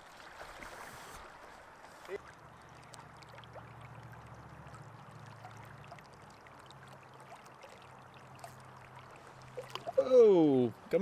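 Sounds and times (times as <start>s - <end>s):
creek water flowing: 0.0s - 11.0s
small water splashes: 0.0s - 11.0s.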